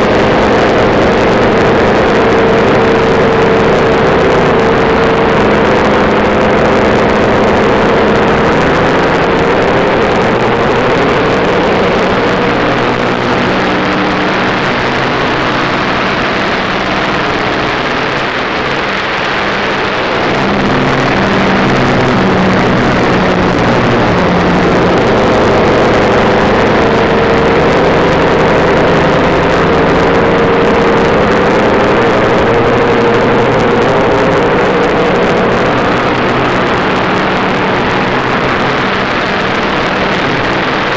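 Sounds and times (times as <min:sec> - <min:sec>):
car engine running hard: 0:00.0 - 0:40.9.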